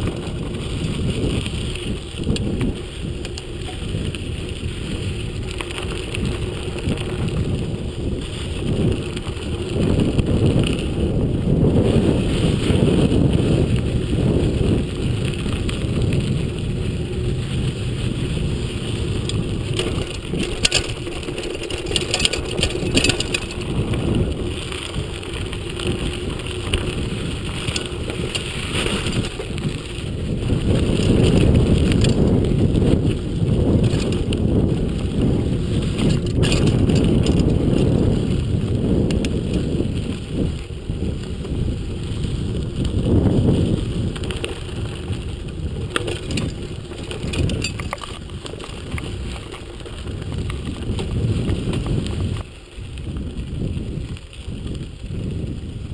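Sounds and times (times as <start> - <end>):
bike rattling: 0.0 - 55.9
tyres crunching on dirt: 0.0 - 55.9
wind buffeting microphone: 0.0 - 55.9.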